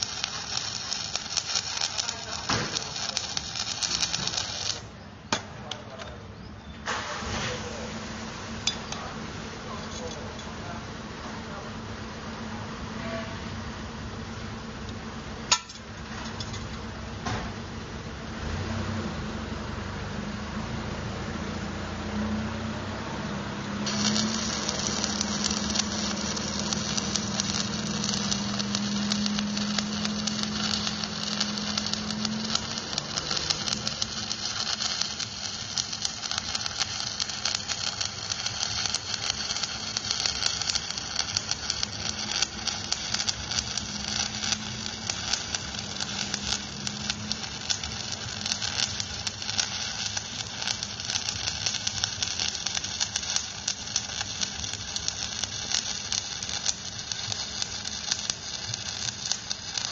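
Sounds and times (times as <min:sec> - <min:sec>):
welding arc crackle and hiss: 0:00.0 - 0:10.8, 0:20.7 - 0:59.9.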